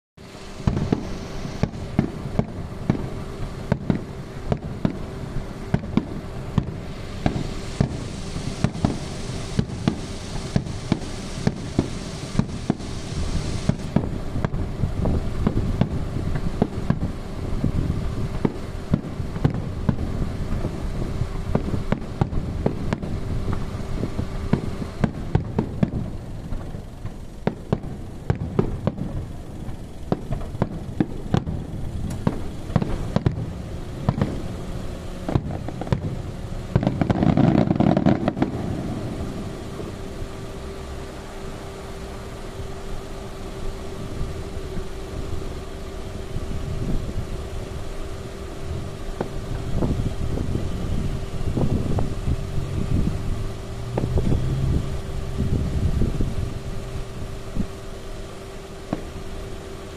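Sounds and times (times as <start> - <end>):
low rumble: 0.2 - 59.5
faint steady hum: 0.2 - 59.9
fireworks shells bursting: 0.2 - 59.9
hissing rush: 0.2 - 59.9.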